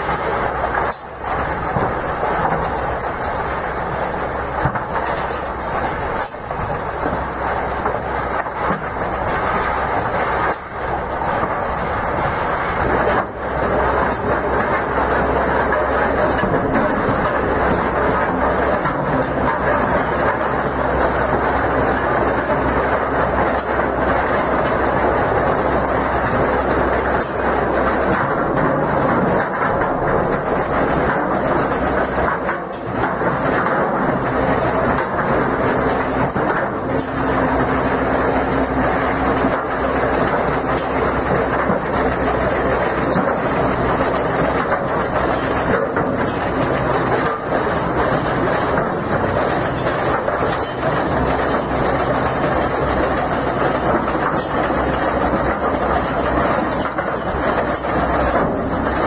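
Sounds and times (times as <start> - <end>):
heavy machinery rattling: 0.0 - 59.0.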